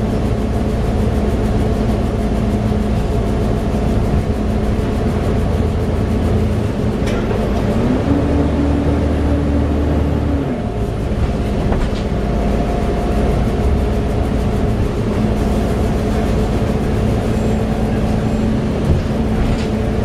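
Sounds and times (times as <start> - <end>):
bus engine drone: 0.0 - 20.0
engine cooling fan whine: 0.0 - 20.0
road noise: 0.0 - 20.0.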